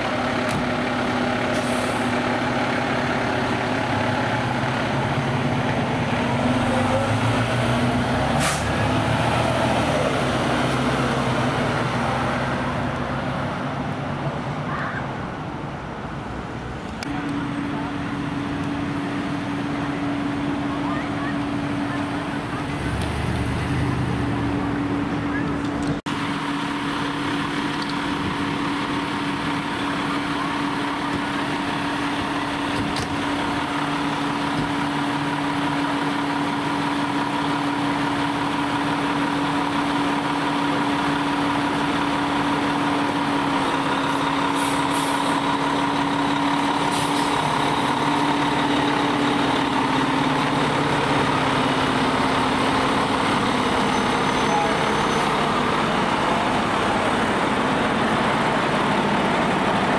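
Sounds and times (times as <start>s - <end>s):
fire engine diesel engine: 0.0s - 59.9s.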